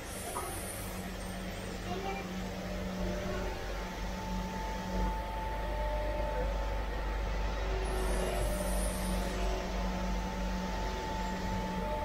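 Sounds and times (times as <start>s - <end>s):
thin steady whine: 0.0s - 12.0s.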